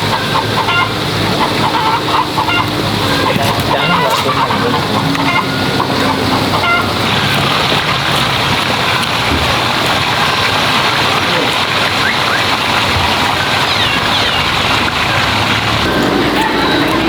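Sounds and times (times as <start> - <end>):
rushing splashing water: 0.0 - 17.0.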